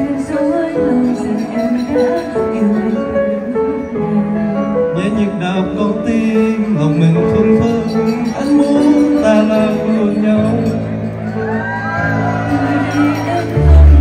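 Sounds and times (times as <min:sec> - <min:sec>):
music with held notes: 0:00.0 - 0:14.0.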